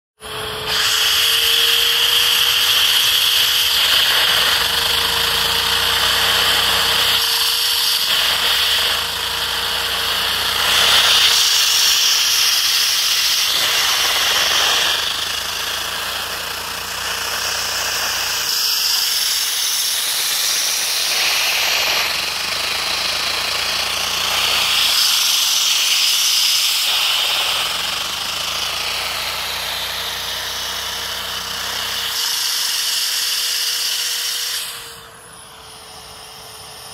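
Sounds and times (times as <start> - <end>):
hiss of drawn air: 0.6 - 4.8, 6.0 - 36.4.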